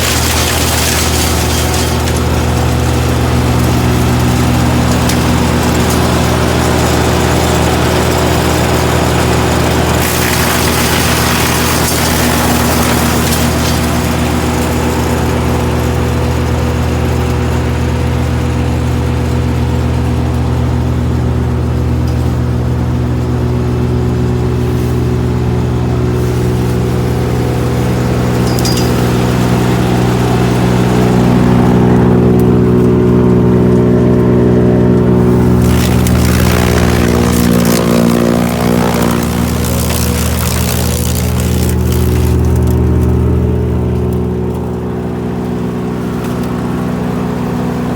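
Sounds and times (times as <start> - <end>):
wood chipper engine running: 0.0 - 47.9.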